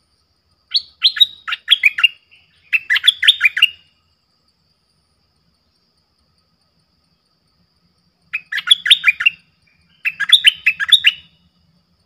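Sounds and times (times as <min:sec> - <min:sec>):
bird chirping: 0:00.5 - 0:12.0.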